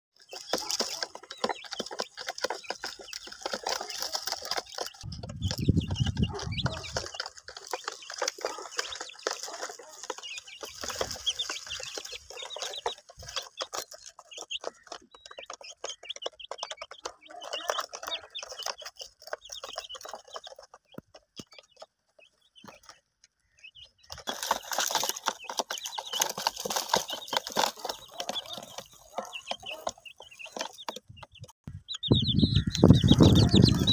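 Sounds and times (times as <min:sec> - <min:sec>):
chicks peeping: 0:00.2 - 0:33.9.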